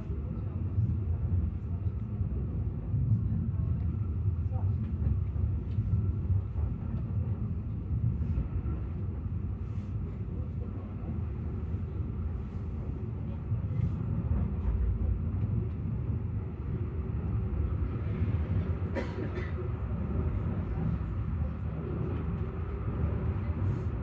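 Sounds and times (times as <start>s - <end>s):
funicular car rumbling on rails: 0.0s - 24.0s.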